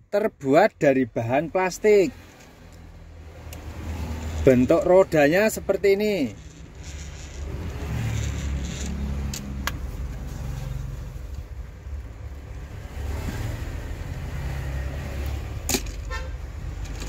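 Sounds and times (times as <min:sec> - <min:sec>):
traffic drone: 0:00.0 - 0:17.0.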